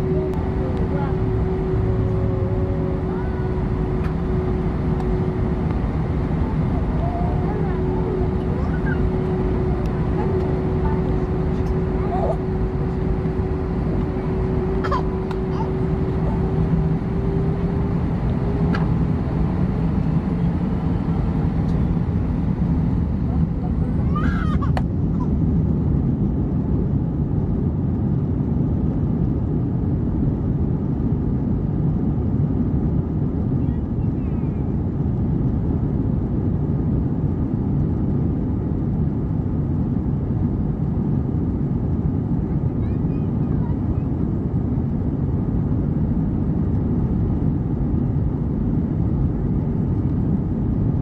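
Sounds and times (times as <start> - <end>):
jet engines low rumble: 0.0 - 51.0.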